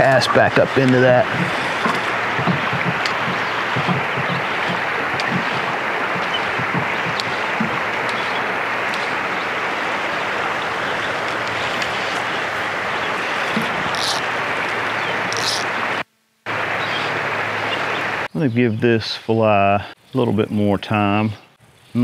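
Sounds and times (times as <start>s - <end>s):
river water rushing: 0.0s - 18.3s.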